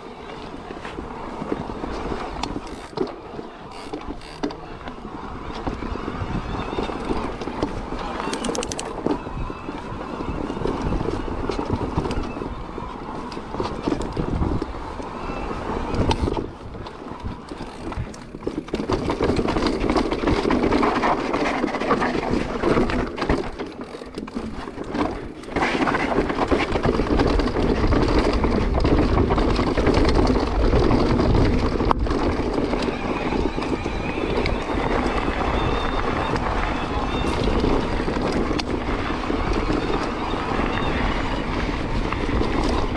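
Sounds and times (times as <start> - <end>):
bike rattling and knocking: 0.0 - 42.9
bike tyres rumbling on dirt: 0.0 - 42.9.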